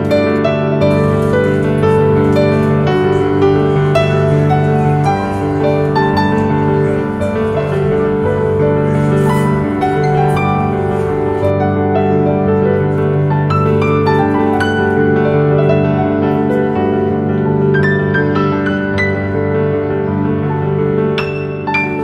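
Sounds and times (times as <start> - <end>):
piano background music: 0.0 - 22.0.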